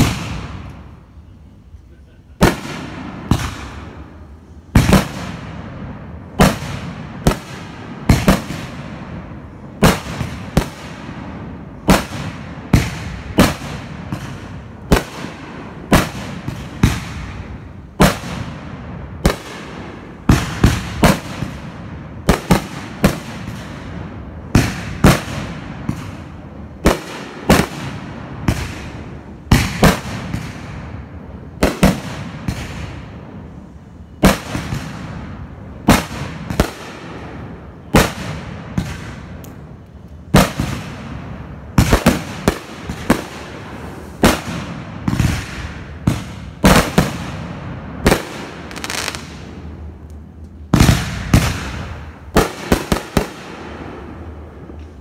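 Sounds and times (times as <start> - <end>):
fireworks bangs: 0.0 - 1.4, 2.3 - 55.0.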